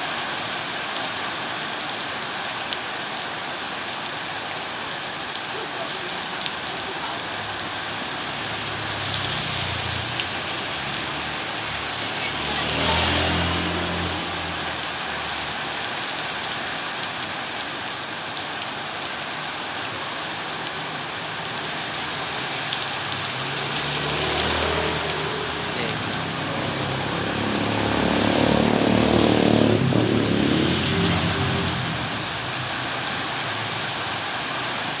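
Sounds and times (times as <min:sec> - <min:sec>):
rain pattering on surfaces: 0:00.0 - 0:35.0.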